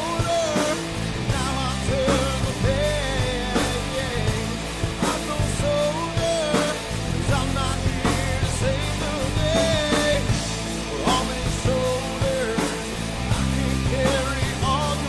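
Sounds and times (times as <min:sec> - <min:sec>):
song with drums and bass: 0:00.0 - 0:15.0.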